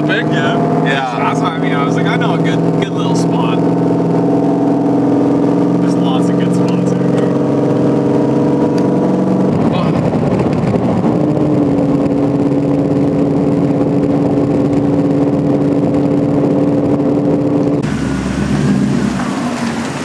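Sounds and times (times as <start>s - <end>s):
truck engine humming: 0.0s - 20.0s.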